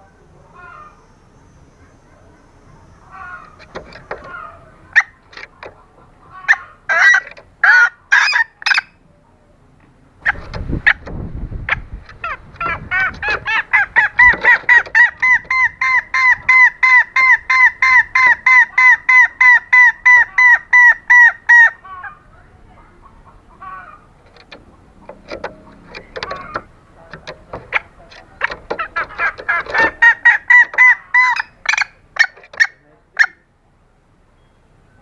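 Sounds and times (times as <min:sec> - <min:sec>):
junglefowl clucking call: 0:03.1 - 0:09.0, 0:10.2 - 0:11.1, 0:11.7 - 0:33.5.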